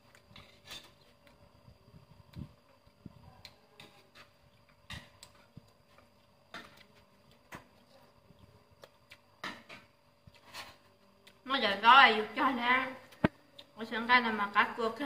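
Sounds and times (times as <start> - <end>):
faint eating clicks and smacks: 0.0 - 11.9, 13.0 - 14.0.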